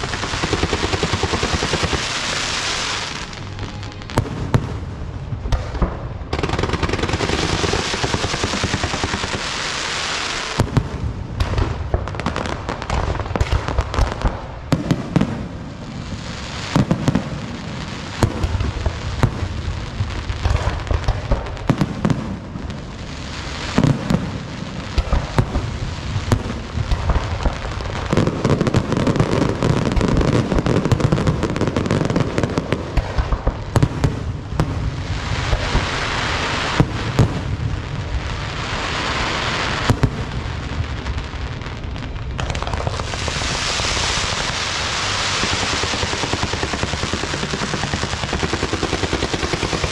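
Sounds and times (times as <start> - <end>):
fireworks hissing: 0.0 - 4.6, 6.3 - 13.2, 15.1 - 49.9
fireworks cracks and bangs: 0.0 - 49.9.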